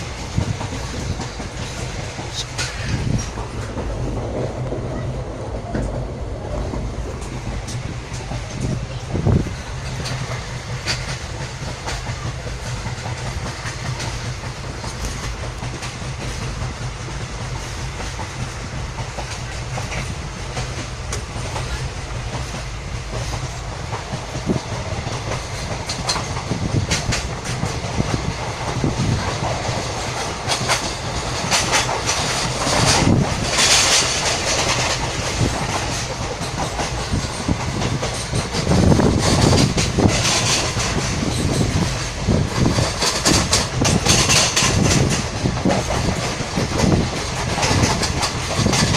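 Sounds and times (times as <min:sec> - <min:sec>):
clickety-clack of rail joints: 0:00.0 - 0:48.9
train wheels rumbling: 0:00.0 - 0:48.9.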